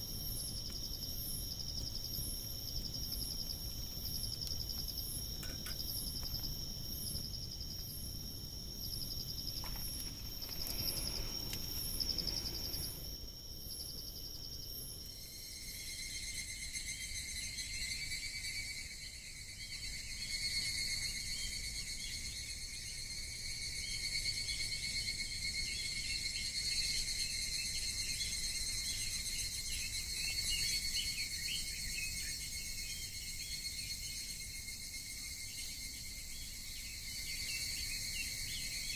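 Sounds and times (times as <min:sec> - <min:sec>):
crickets and insects trilling: 0:00.0 - 0:38.9.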